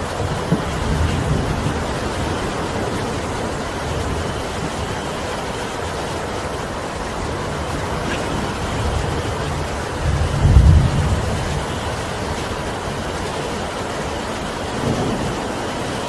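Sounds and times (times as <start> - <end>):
steady rain: 0.0 - 16.0
wind: 0.0 - 16.0.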